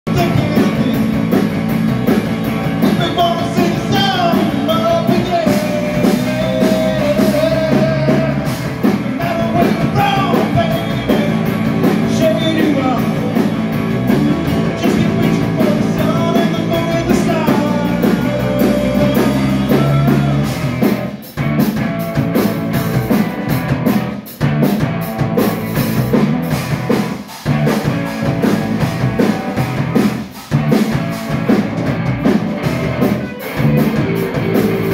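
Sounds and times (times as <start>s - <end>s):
drum kit: 0.0s - 34.9s
electric bass: 0.0s - 34.9s
live rock band playing: 0.0s - 34.9s.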